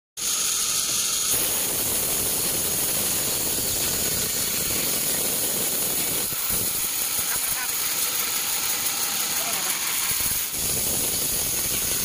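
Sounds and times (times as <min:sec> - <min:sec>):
band saw hissing: 0:00.2 - 0:12.0.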